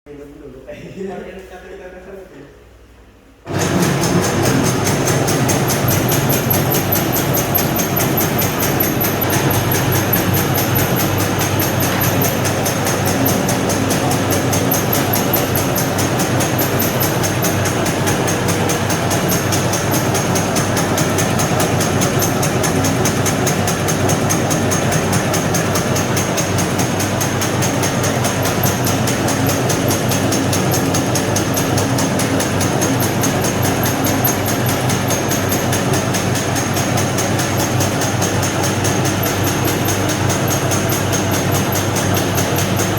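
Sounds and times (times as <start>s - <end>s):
fast even machine clatter: 3.5s - 42.9s
machine motor hum: 3.5s - 42.9s.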